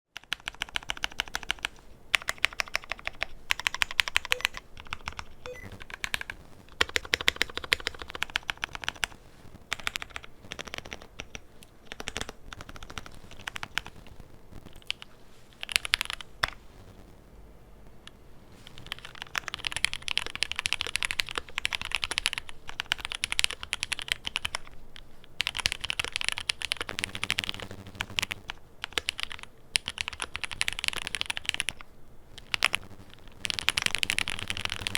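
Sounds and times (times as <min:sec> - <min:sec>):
mechanical keyboard typing: 0:00.2 - 0:09.1, 0:09.7 - 0:14.0, 0:15.6 - 0:16.6, 0:18.8 - 0:27.6, 0:28.2 - 0:34.9.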